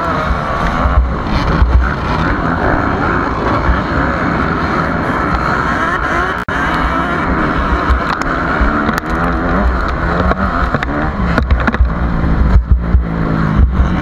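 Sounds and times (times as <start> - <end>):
dirt bike engine accelerating: 0.0 - 14.0
other motocross bike engines: 0.0 - 14.0.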